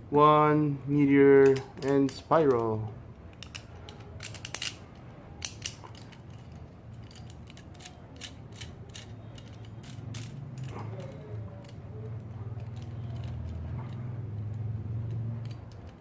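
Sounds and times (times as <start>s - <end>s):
plastic and metal parts clicking: 1.4s - 16.0s
ratchet-like snaps: 1.4s - 16.0s.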